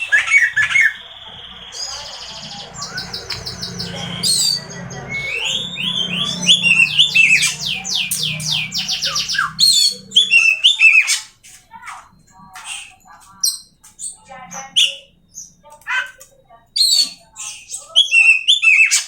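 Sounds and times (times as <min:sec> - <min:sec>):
bird singing varied song: 0:00.0 - 0:19.0.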